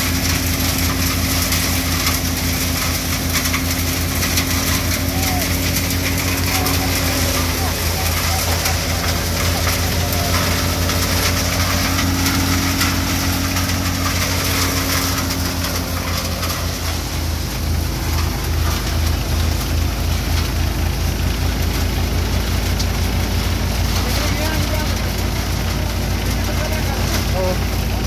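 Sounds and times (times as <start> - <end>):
diesel tractor engine: 0.0 - 28.0
thresher running: 0.0 - 28.0.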